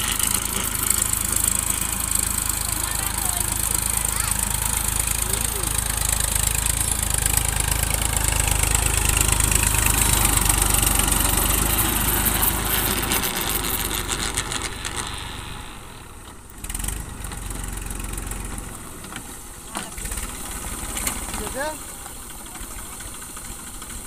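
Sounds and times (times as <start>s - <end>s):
diesel tractor engine under load: 0.0s - 24.0s.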